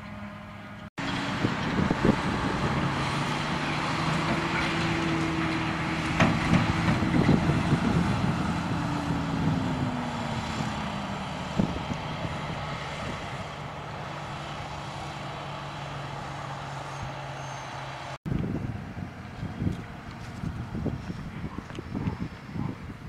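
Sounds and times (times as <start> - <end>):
heavy diesel machinery running: 0.0 - 22.7.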